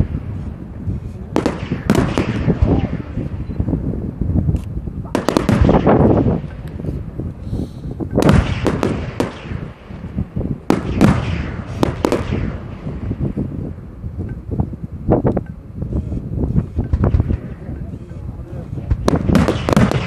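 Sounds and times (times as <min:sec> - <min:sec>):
fireworks bursting: 0:00.0 - 0:03.8, 0:04.5 - 0:07.4, 0:08.0 - 0:14.1, 0:16.5 - 0:20.0.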